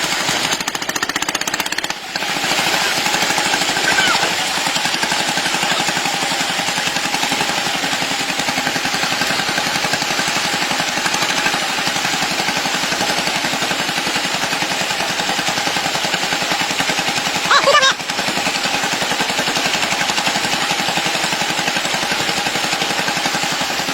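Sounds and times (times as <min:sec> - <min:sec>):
ploughing machine engine chugging: 0:00.0 - 0:23.9.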